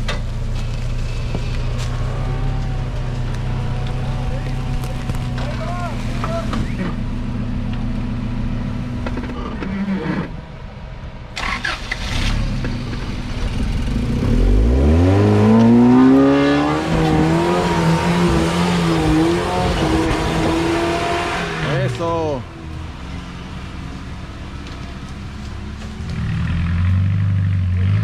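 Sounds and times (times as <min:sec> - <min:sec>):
off-road vehicle engine revving: 0:00.0 - 0:10.4, 0:11.4 - 0:22.4, 0:25.8 - 0:28.0.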